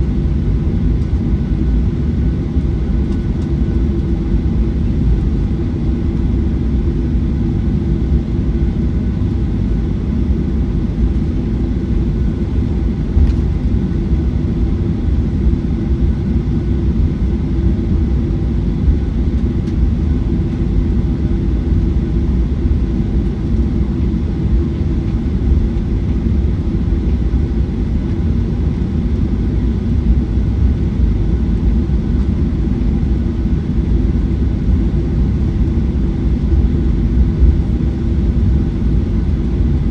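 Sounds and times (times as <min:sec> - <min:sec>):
airplane cabin engine hum: 0:00.0 - 0:39.9.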